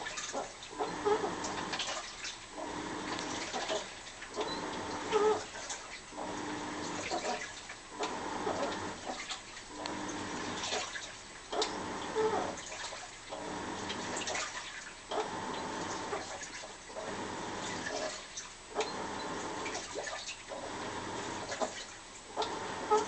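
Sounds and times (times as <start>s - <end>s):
washing machine squealing: 0.0s - 23.0s
washing machine water sloshing: 0.0s - 23.0s.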